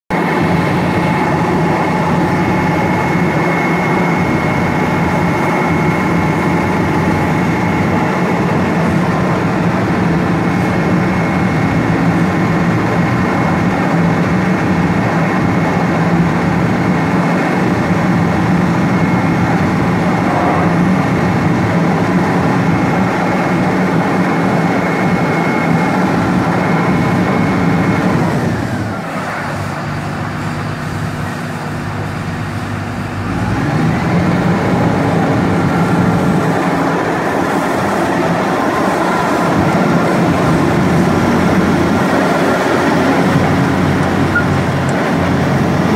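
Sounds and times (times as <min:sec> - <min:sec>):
diesel engine running: 0:00.1 - 0:45.9
high whine: 0:00.1 - 0:45.9.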